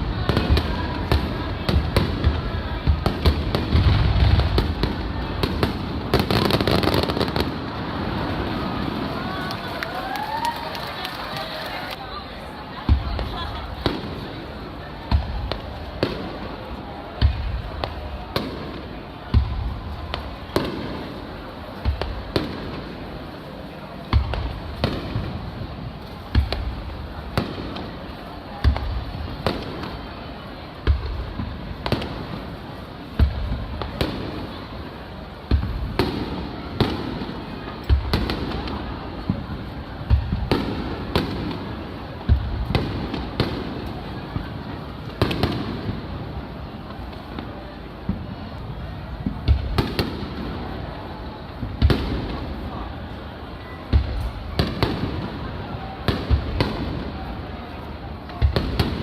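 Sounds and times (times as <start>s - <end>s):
fireworks booming: 0.0s - 9.8s, 12.8s - 59.0s.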